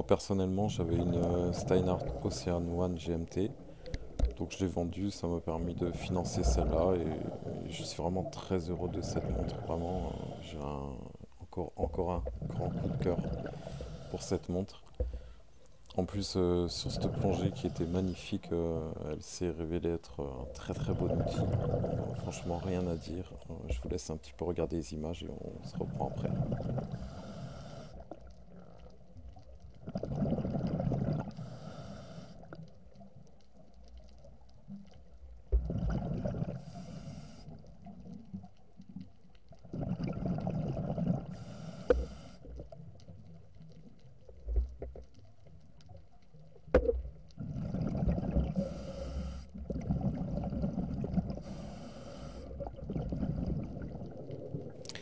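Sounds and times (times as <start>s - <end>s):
exhaled bubbles rumbling underwater: 0.1s - 15.3s, 16.1s - 24.1s, 25.1s - 55.0s.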